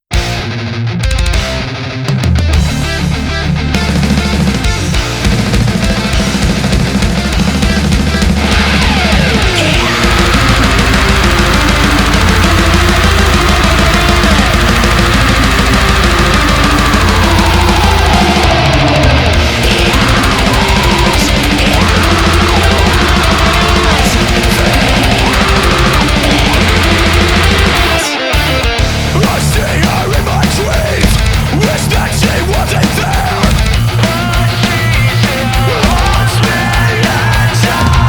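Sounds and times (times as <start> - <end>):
heavy metal music: 0.0 - 38.0.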